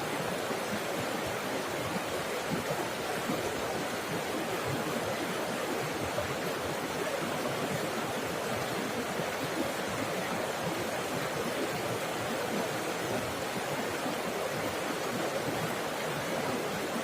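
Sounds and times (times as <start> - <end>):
water falling and flowing: 0.0 - 17.0.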